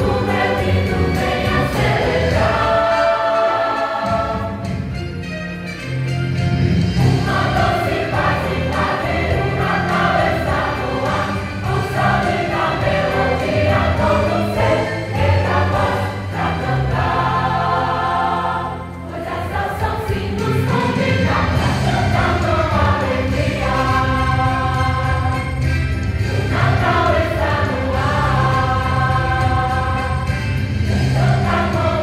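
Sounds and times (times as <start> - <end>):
choir singing: 0.0 - 4.9, 7.0 - 32.0
instrumental accompaniment: 0.0 - 32.0.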